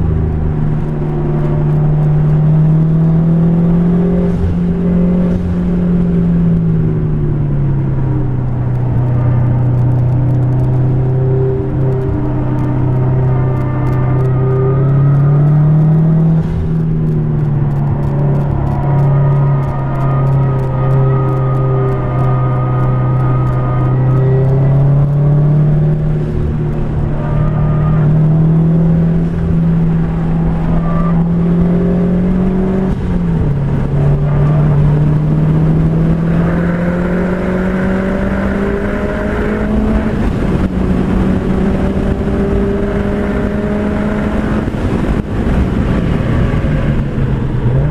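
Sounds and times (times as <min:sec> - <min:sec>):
car engine accelerating: 0:00.0 - 0:47.9
wind and road noise: 0:00.0 - 0:47.9.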